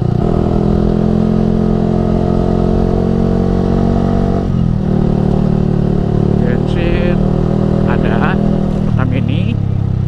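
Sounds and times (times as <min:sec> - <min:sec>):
motorcycle engine under throttle: 0:00.0 - 0:10.0.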